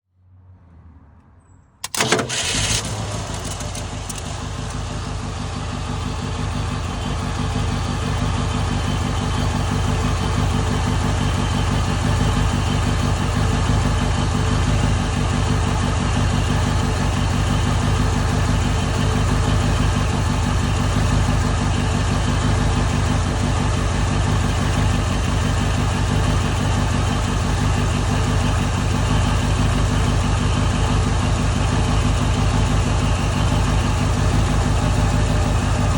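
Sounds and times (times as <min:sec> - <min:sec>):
car engine idling: 0:01.8 - 0:35.9.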